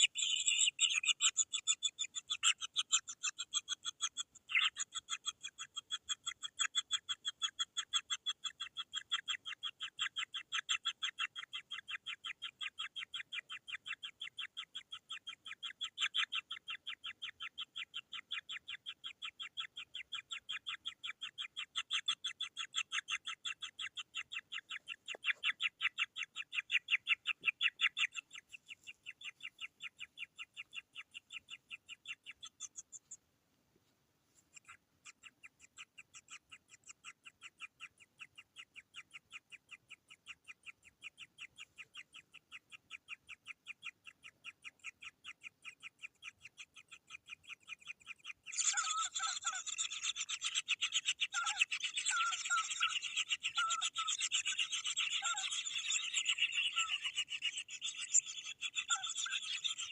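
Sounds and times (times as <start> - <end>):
bird chicks chirping: 0.0 - 33.2, 34.4 - 59.9.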